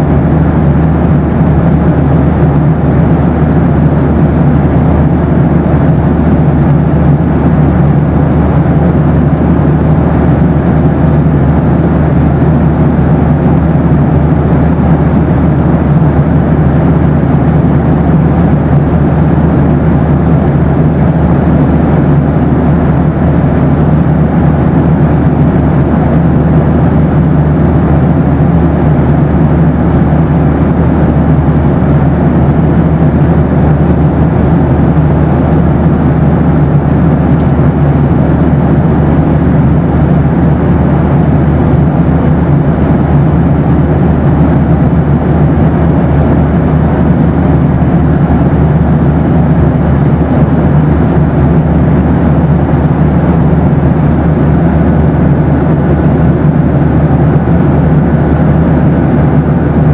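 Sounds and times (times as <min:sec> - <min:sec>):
airplane cabin engine and airflow noise: 0:00.0 - 0:59.9.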